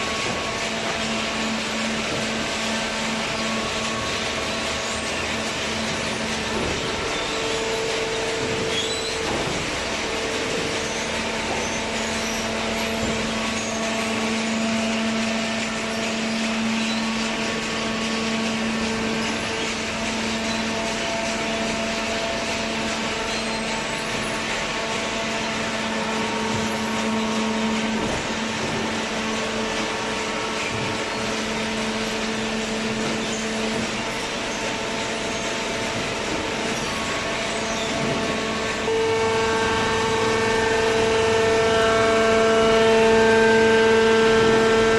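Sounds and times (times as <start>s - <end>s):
electric pump motor humming: 0.0s - 44.9s.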